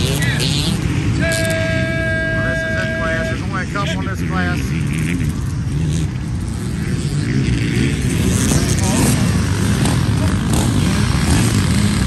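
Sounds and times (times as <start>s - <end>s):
dirt bike engines running: 0.0s - 12.0s.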